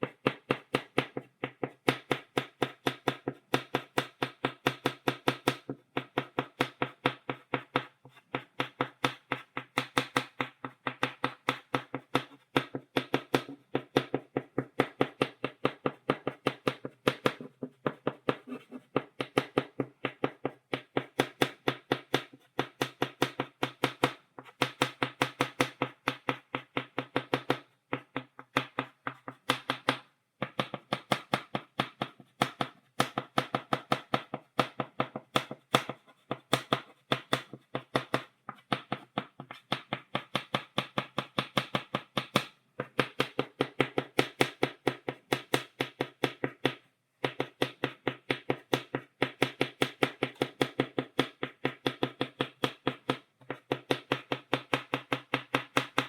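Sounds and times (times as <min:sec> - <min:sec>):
chalk tapping on blackboard: 0:00.0 - 0:56.0.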